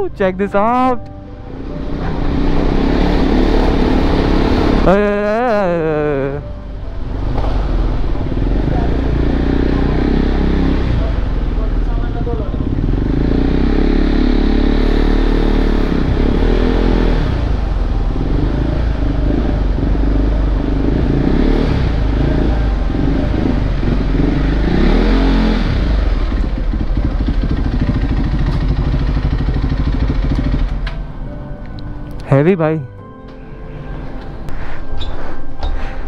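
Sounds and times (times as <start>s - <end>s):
motorcycle engine revving: 1.5s - 31.1s.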